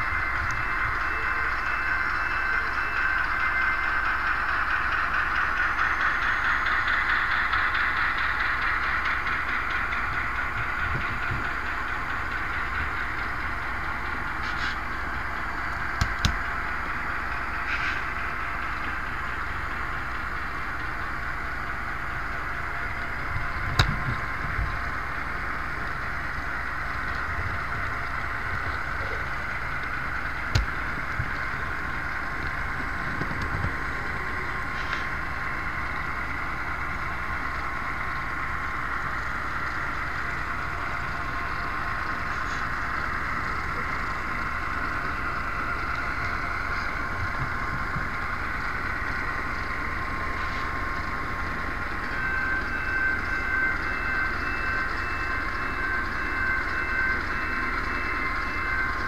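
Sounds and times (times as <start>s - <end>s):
wheels clicking over track joints: 0.4s - 59.0s.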